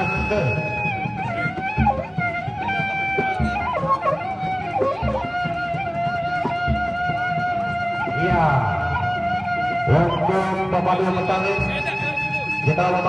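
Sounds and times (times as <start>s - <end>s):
low drum beats: 0.0s - 13.0s
wavering melody with pitch bends: 0.0s - 13.0s.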